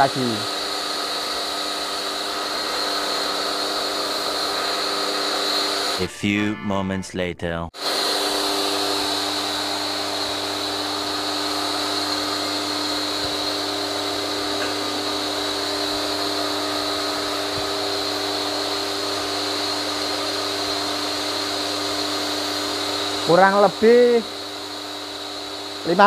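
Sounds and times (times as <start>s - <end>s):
electric pressure washer running: 0.0s - 6.0s, 7.8s - 26.0s.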